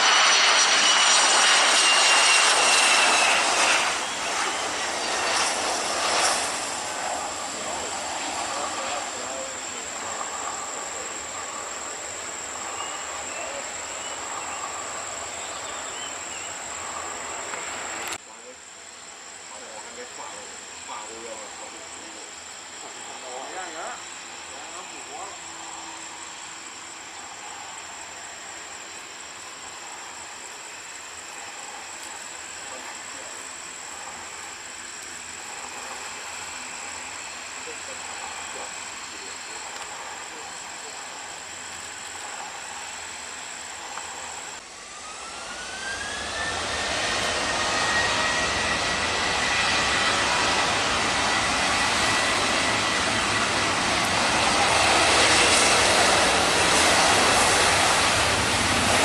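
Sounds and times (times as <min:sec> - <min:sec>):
high-pitched whine: 0:00.0 - 0:59.0
jet engines roaring: 0:00.0 - 0:59.0.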